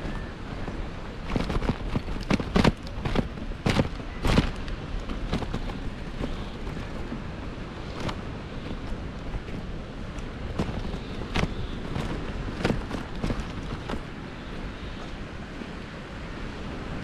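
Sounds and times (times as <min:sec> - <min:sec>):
wind buffeting microphone: 0:00.0 - 0:17.0
bicycle knocking and rattling: 0:01.2 - 0:15.2.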